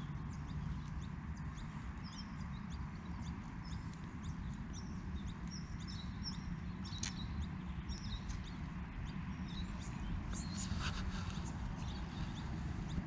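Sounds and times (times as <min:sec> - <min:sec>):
low steady background rumble: 0:00.0 - 0:13.0
small birds chirping: 0:00.0 - 0:13.0.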